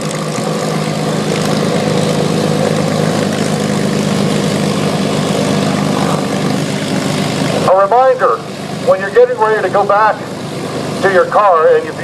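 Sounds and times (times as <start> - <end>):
propeller airplane engine running: 0.0 - 12.0.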